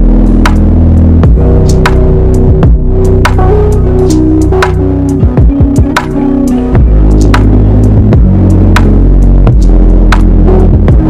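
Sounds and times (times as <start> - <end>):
electronic pop music with synth: 0.0 - 11.0.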